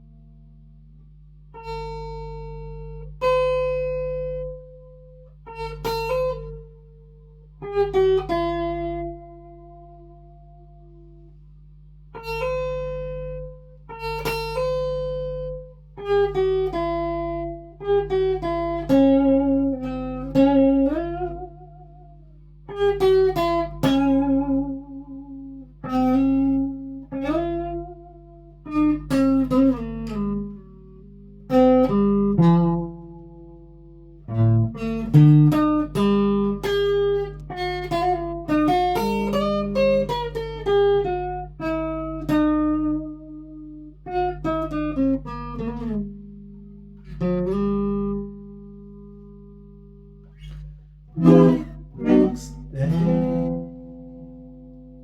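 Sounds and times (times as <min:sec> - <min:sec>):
guitar picked notes and chords: 0:00.0 - 0:55.0.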